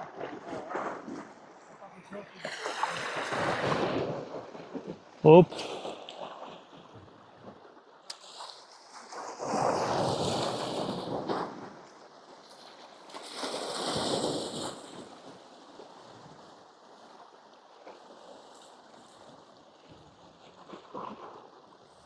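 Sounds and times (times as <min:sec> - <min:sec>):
sea waves washing against rocks: 0:00.0 - 0:22.0.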